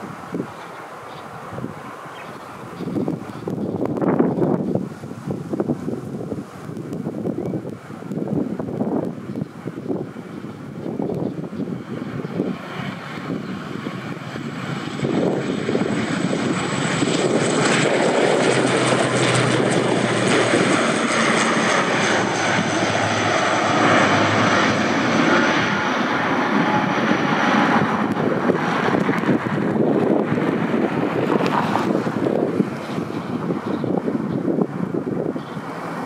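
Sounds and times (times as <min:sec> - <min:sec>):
high turbine whine: 0:00.0 - 0:36.0
low propeller hum: 0:00.0 - 0:36.0.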